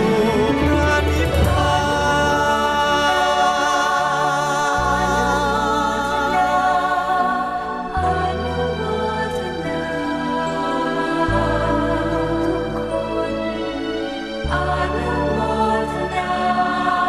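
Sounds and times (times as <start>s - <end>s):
instrumental backing: 0.0s - 17.0s
voices singing with vibrato: 0.0s - 17.0s.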